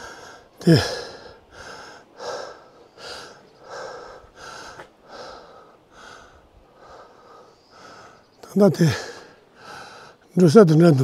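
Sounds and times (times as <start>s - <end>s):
person breathing hard: 0.0s - 8.2s, 8.9s - 10.3s.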